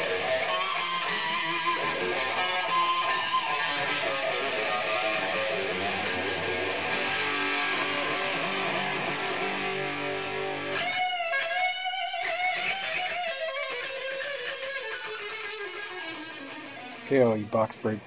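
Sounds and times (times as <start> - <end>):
electric guitar intro music: 0.0 - 18.0
wavering guitar line: 0.0 - 18.0.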